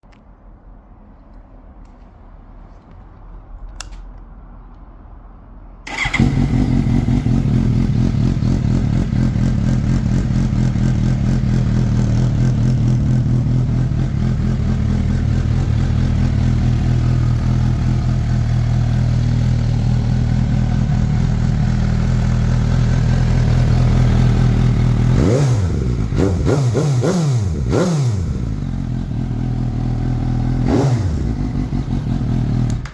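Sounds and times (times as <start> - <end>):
motorcycle engine idling and revving: 5.9 - 32.9.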